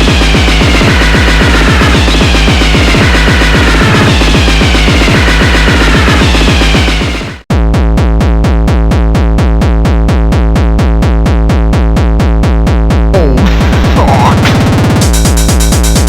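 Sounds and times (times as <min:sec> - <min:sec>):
fast heavy kick drum beat: 0:00.0 - 0:16.0.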